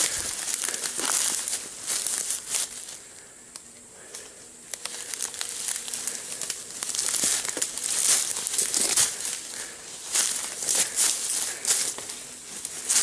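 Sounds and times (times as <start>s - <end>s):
footsteps crunching through dry leaves: 0.0s - 3.1s, 4.0s - 13.0s
twigs crackling: 0.0s - 13.0s.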